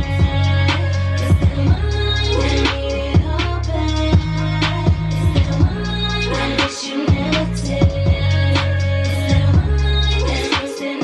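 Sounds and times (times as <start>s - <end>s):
music with deep bass beat: 0.0s - 11.0s.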